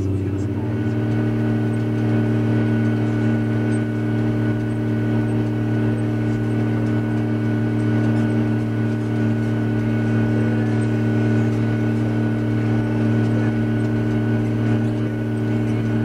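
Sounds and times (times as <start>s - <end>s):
heavy vehicle engine drone: 0.0s - 16.0s
thin whine: 0.0s - 16.0s.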